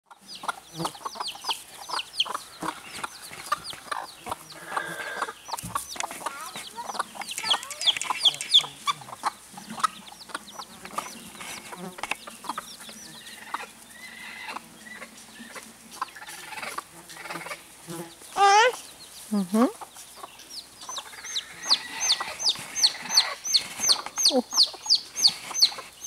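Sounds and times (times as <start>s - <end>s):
chicks peeping: 0.1s - 26.0s
hens clucking: 0.1s - 26.0s
scratching in dry leaves: 1.5s - 9.8s, 10.9s - 20.2s, 21.0s - 26.0s.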